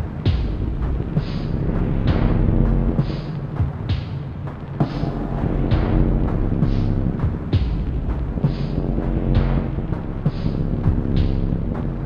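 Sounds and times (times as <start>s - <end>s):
music with heavy low beats: 0.0s - 12.0s.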